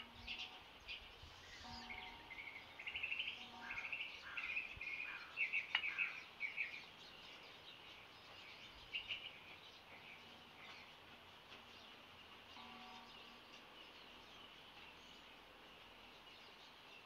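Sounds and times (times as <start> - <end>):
faint outdoor hiss: 0.0 - 17.0
songbirds chirping and trilling: 0.0 - 17.0.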